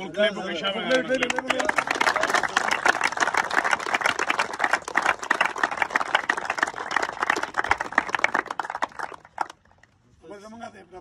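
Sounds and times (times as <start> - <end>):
people clapping: 0.8 - 10.0.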